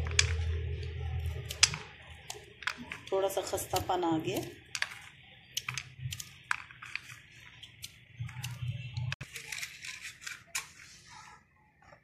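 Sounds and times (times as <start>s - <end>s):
knife cutting crisp almonds: 1.1s - 10.8s.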